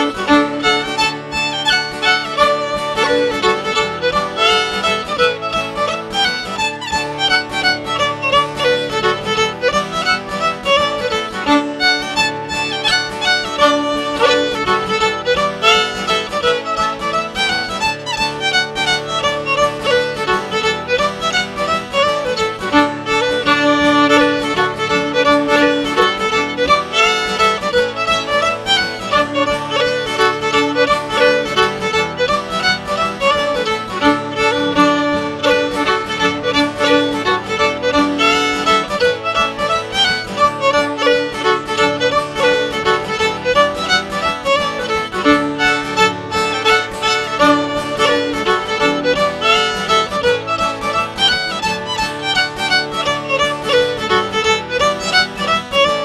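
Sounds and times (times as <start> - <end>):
fiddle playing dance tune: 0.0 - 56.0.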